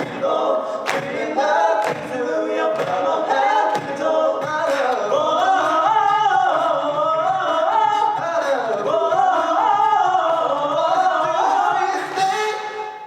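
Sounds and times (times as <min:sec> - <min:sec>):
a cappella group singing harmony: 0:00.0 - 0:13.0.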